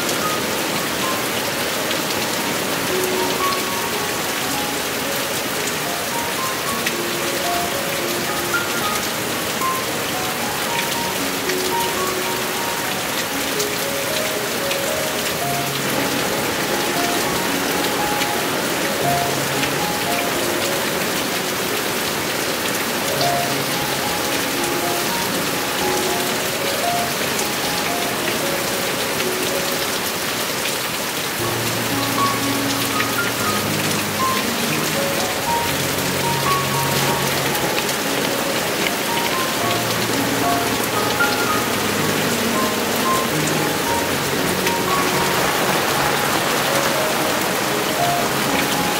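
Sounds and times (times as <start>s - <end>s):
heavy rain falling: 0.0s - 48.9s
soft background melody: 0.0s - 48.9s.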